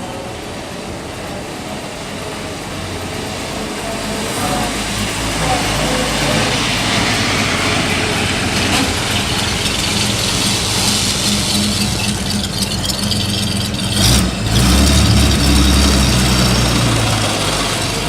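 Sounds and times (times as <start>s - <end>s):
car engine running: 2.2s - 18.0s.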